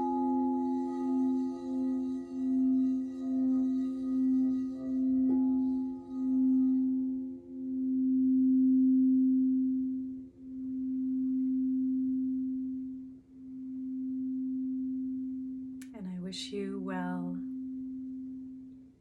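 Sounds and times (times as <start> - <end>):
singing bowl ringing: 0.0 - 16.0, 17.2 - 18.9.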